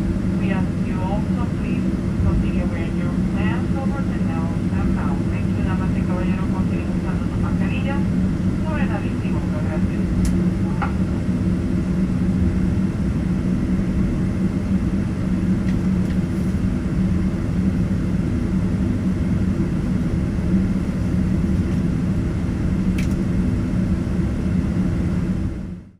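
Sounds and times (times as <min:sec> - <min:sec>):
aircraft cabin rumble and hum: 0:00.0 - 0:25.9.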